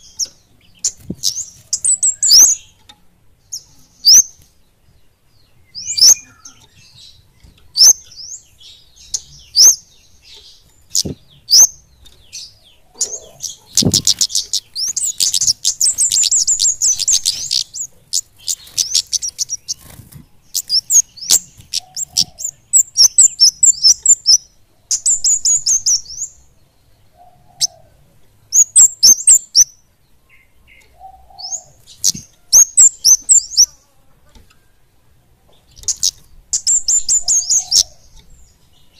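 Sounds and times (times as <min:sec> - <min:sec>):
small birds singing trills: 0:00.0 - 0:38.9.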